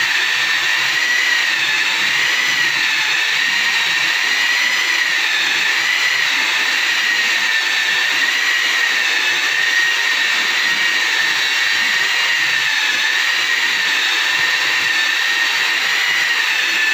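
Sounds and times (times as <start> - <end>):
electric polisher motor whine: 0.0 - 16.9.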